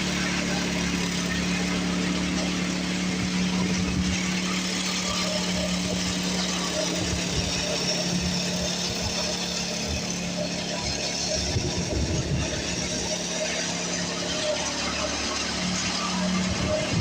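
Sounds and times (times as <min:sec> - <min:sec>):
snowblower engine running: 0:00.0 - 0:17.0.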